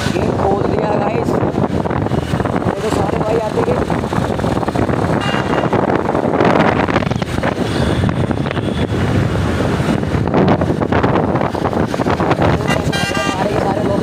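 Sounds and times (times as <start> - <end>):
road and engine rumble: 0.0 - 14.0
wind rushing over microphone: 0.0 - 14.0.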